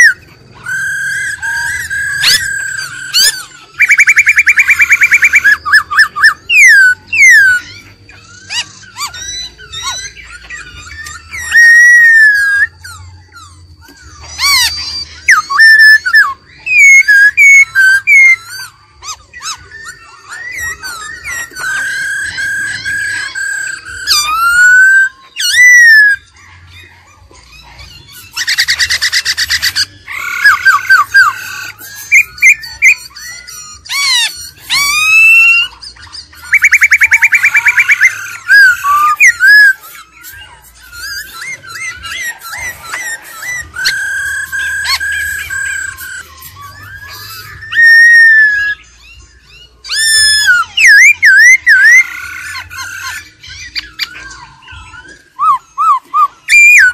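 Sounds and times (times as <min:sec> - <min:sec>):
bird singing whistled notes: 0:00.0 - 0:56.9
rapid buzzy bird trilling: 0:00.0 - 0:56.9.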